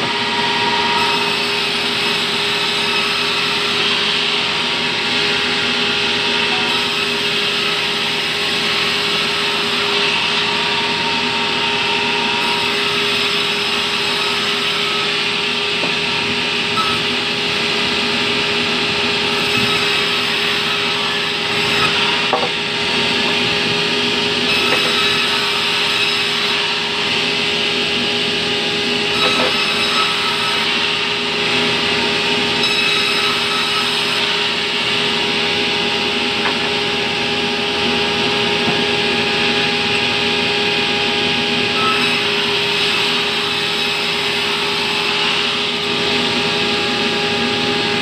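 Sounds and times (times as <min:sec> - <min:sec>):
band saw cutting through log: 0:00.0 - 0:48.0.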